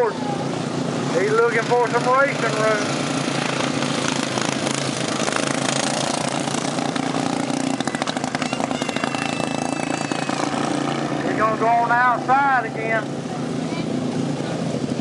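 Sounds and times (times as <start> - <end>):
lawn mower engines racing: 0.0 - 15.0.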